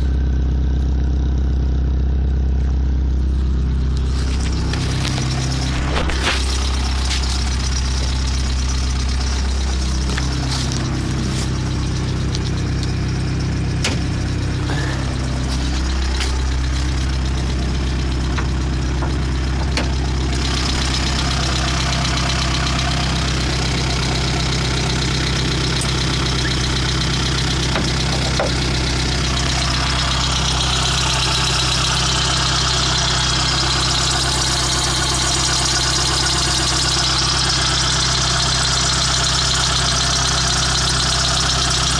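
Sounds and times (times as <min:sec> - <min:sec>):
car engine idling with rattle: 0:00.0 - 0:41.9.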